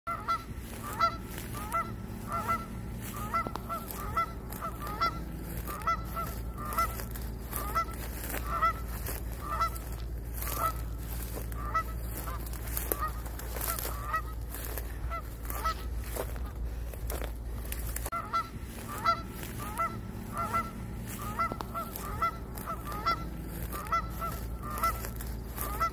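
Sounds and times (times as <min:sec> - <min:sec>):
geese honking: 0:00.1 - 0:25.9.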